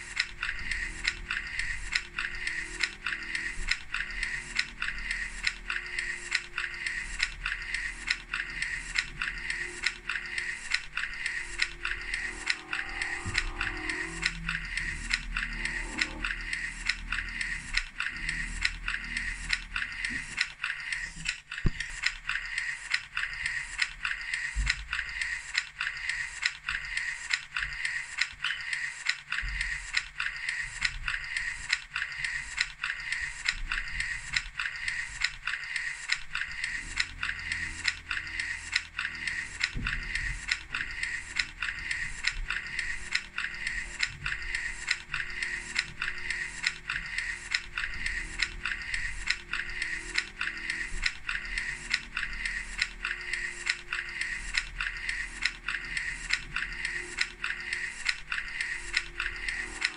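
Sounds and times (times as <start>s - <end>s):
mechanical clicking: 0.0s - 59.9s.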